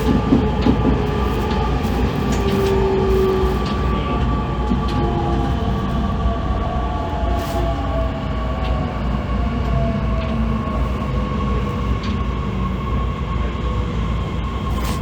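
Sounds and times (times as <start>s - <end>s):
train motor whine: 0.0s - 15.0s
train wheels rumbling on rail: 0.0s - 15.0s.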